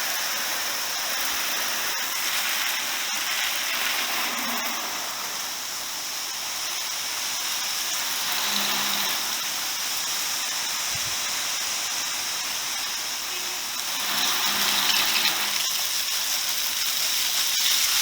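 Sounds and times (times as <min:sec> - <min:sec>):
soda blaster hissing: 0:00.0 - 0:18.0.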